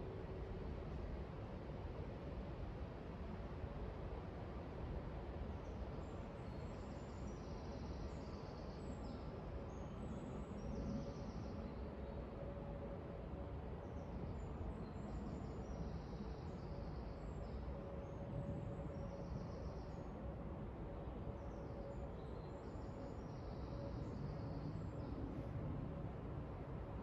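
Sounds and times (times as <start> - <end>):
faint steady hum: 0.0 - 27.0
outdoor hiss and low rumble: 0.0 - 27.0.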